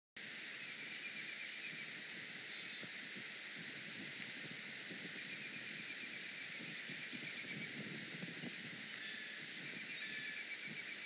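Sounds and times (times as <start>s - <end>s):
steady outdoor hiss: 0.2s - 11.0s.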